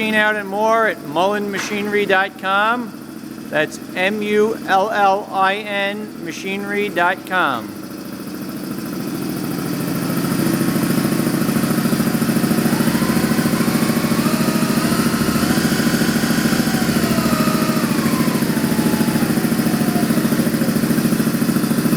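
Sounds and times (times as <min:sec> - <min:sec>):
air compressor pulsing: 0:00.0 - 0:21.9
higher whine: 0:00.0 - 0:21.9.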